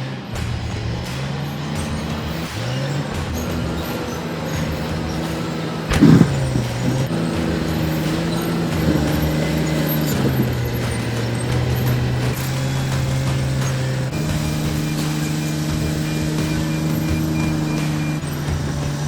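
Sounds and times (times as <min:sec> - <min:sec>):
bulldozer diesel engine under load: 0:00.0 - 0:19.0.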